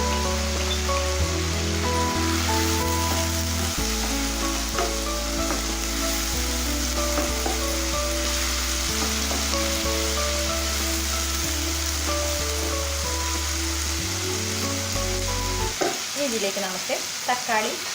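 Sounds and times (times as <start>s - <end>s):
background music: 0.0s - 15.8s
onions sizzling in oil: 0.0s - 17.9s.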